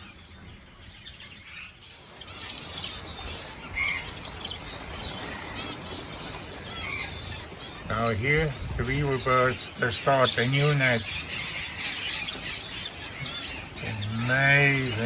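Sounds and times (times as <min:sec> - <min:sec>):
birds chattering and chirping: 0:00.0 - 0:15.0.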